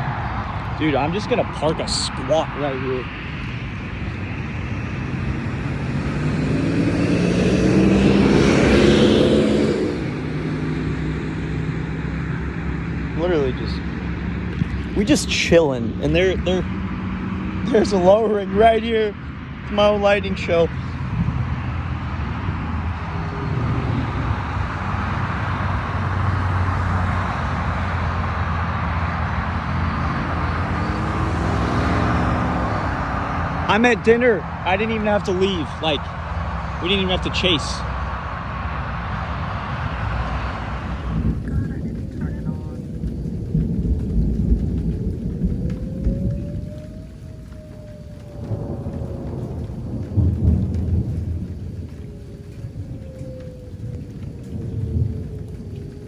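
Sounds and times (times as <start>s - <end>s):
highway traffic: 0.0s - 56.0s
vehicle passing by: 0.0s - 56.0s.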